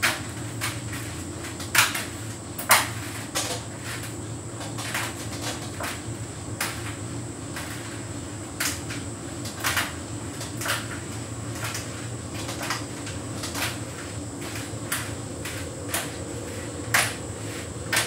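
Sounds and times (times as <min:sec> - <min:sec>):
tumble dryer humming: 0:00.0 - 0:18.0.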